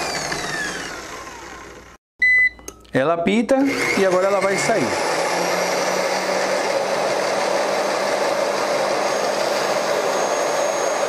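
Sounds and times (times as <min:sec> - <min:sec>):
drill motor running: 0:00.0 - 0:02.0, 0:03.6 - 0:11.0.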